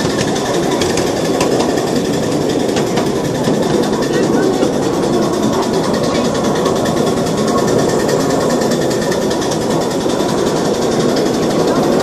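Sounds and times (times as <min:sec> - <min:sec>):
miniature train wheels clattering: 0:00.0 - 0:12.0.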